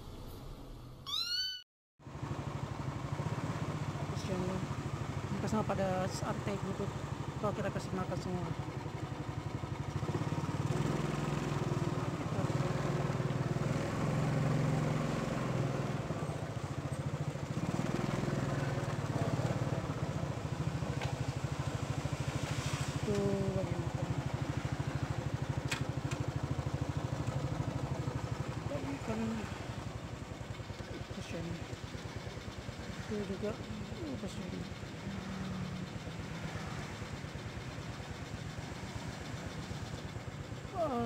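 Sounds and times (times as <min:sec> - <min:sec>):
motorcycle engine running: 0:02.0 - 0:41.0.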